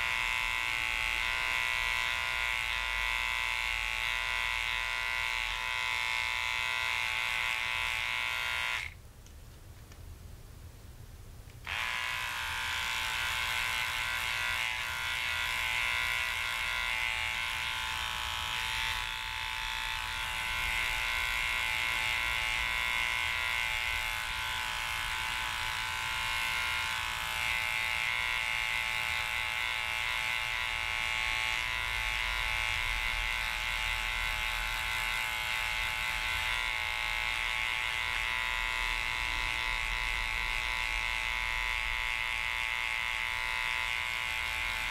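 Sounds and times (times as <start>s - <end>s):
electric clipper buzzing: 0.0s - 9.0s, 11.6s - 44.9s.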